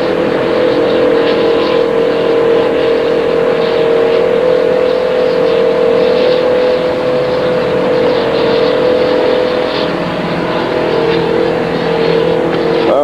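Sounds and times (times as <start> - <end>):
machine humming and rushing: 0.0 - 13.0.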